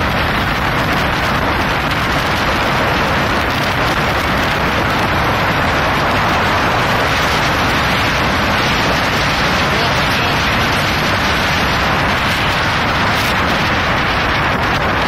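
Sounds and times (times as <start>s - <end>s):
ferry engine and water rush: 0.0s - 15.0s.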